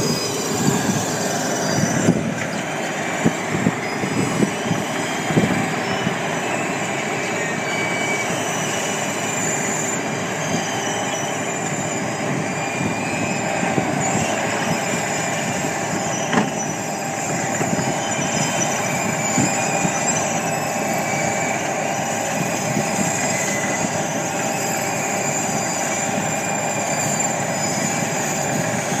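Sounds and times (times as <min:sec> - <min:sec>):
high machine whines: 0:00.0 - 0:29.0.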